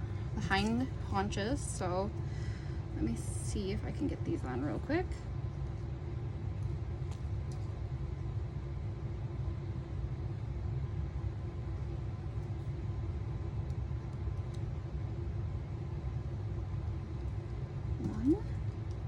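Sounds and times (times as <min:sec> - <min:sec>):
faint hum: 0:00.0 - 0:19.0
steady low rumble: 0:00.0 - 0:19.0.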